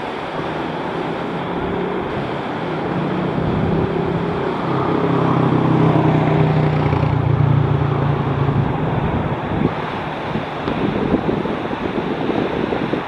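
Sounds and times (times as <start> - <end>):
low engine hum: 0.0 - 13.0
surf: 0.0 - 13.0
wind: 0.0 - 13.0.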